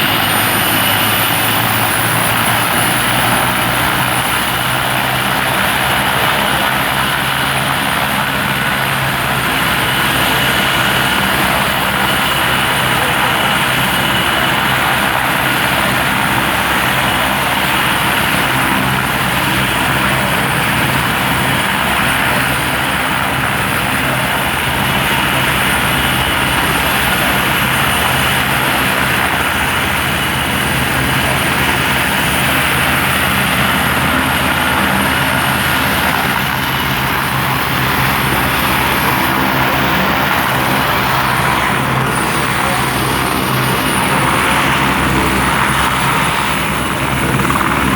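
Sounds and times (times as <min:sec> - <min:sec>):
helicopter rotor drone: 0:00.0 - 0:47.9.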